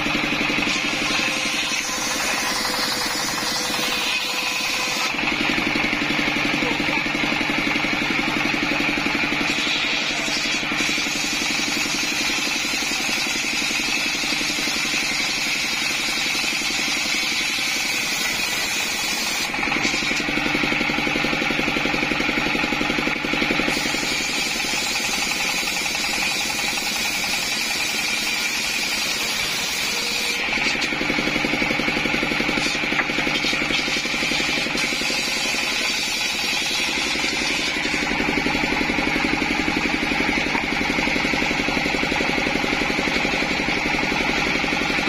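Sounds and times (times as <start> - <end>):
diesel engine running: 0.0 - 12.9, 19.5 - 28.8, 30.3 - 45.0
circular saw cutting wood: 0.0 - 45.0.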